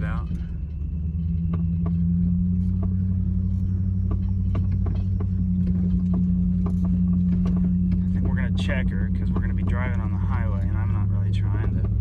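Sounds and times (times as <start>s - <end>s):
car engine and road drone: 0.0s - 12.0s
light clicks and knocks: 1.4s - 12.0s.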